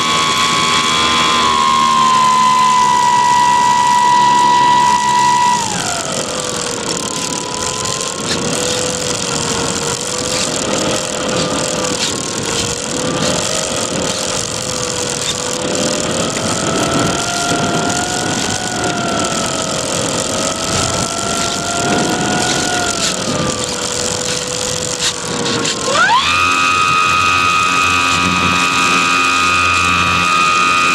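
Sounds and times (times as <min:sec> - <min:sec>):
electric motor and propeller whine: 0:00.0 - 0:30.9
wind rush: 0:00.0 - 0:30.9.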